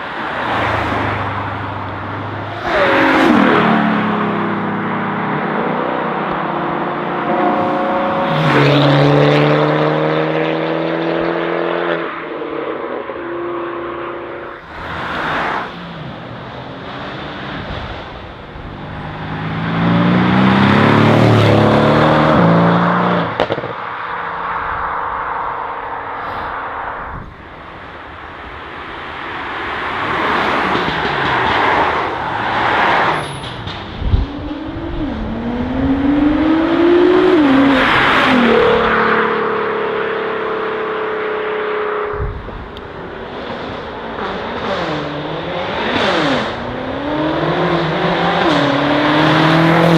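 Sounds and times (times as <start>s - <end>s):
car engine revving: 0.0s - 49.9s
sports cars accelerating past: 0.0s - 49.9s.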